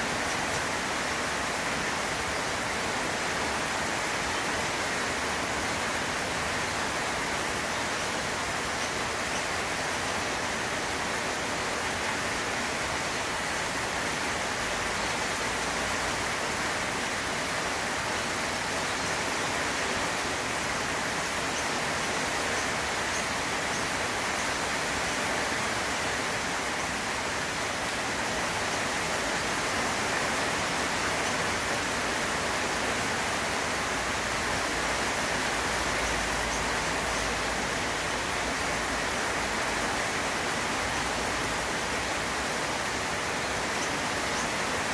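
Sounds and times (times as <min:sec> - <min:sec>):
heavy rain on foliage: 0:00.0 - 0:44.9.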